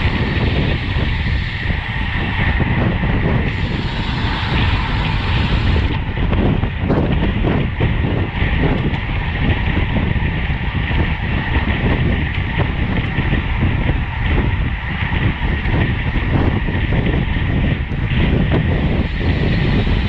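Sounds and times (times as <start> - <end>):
road and tyre noise: 0.0 - 20.0
wind buffeting microphone: 0.0 - 20.0.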